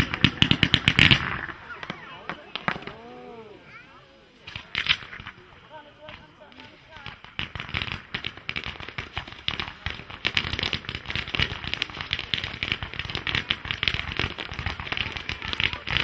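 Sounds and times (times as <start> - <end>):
firework crackle: 0.0 - 16.0
firework shells bursting: 0.0 - 16.0.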